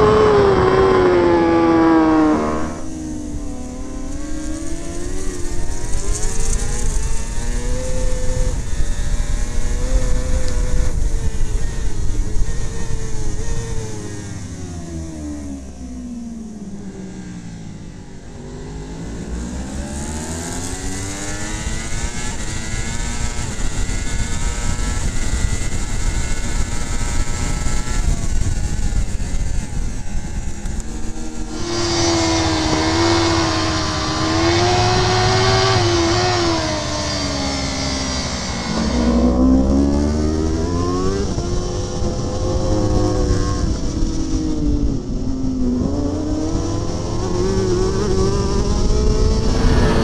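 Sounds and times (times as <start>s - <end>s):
wind rush: 0.0s - 14.5s, 19.5s - 50.0s
racing motorcycle engine: 0.0s - 50.0s.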